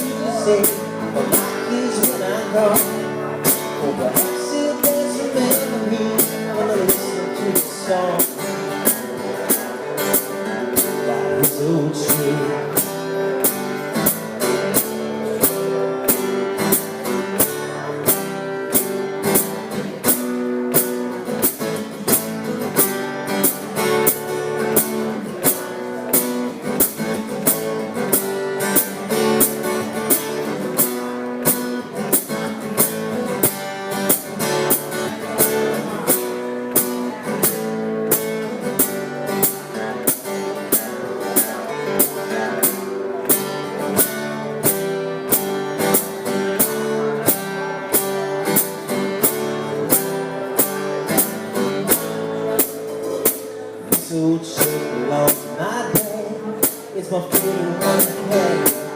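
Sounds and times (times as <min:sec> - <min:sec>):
acoustic guitar strumming: 0:00.0 - 0:58.9.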